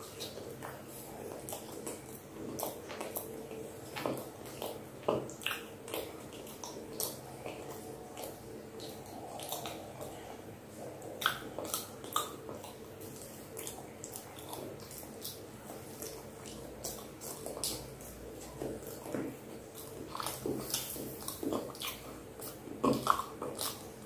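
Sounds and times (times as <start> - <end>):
faint steady hum: 0.0 - 24.0
mouth chewing sounds: 0.0 - 24.0.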